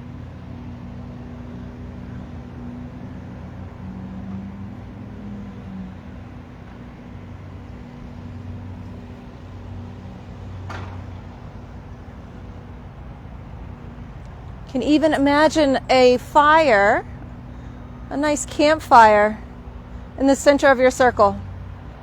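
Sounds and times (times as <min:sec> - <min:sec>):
engine machinery hum: 0:00.0 - 0:22.0.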